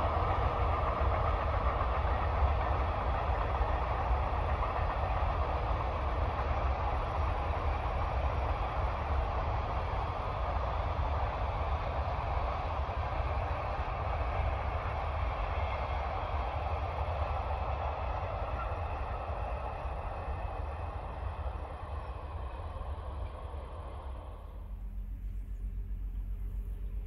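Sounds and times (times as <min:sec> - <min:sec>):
distant freight train rumbling: 0:00.0 - 0:27.0.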